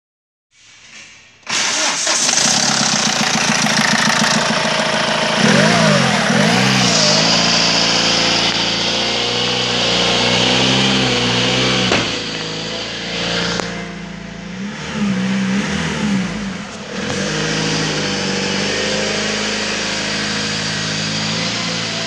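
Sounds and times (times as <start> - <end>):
diesel engine starting and idling: 0.8 - 22.0
engine revving: 1.5 - 22.0.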